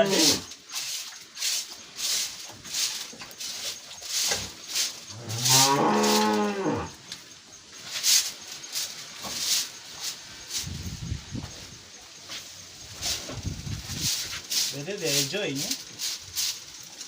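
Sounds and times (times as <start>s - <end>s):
rustling and scraping: 0.0s - 17.0s.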